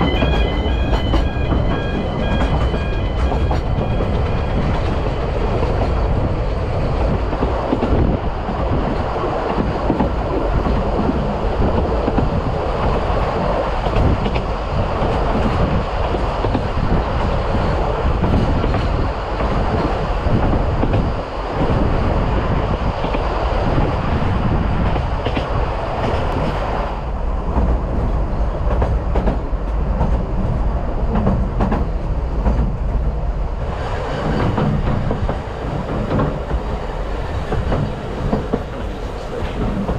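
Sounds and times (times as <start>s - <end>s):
train carriages rumbling and rattling: 0.0s - 39.9s.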